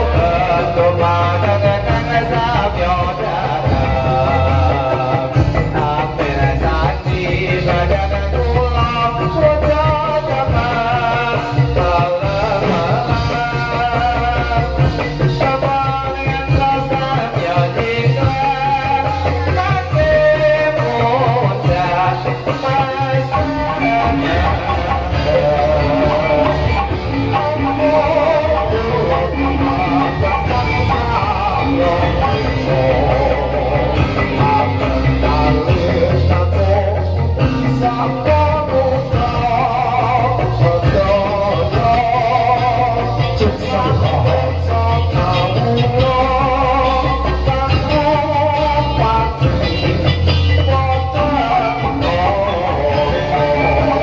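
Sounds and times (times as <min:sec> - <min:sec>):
heavy bass: 0:00.0 - 0:54.0
loud live dance music: 0:00.0 - 0:54.0
steady drum beat: 0:00.0 - 0:54.0
wavering melody line: 0:00.0 - 0:54.0.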